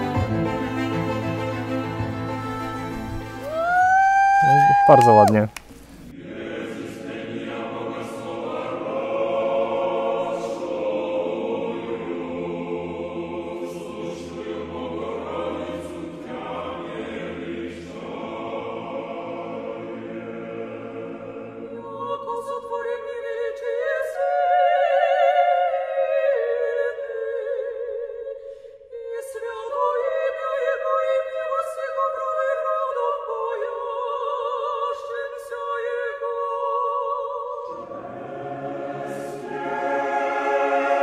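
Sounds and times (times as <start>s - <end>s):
choir singing unaccompanied: 6.1s - 28.3s, 28.9s - 41.0s.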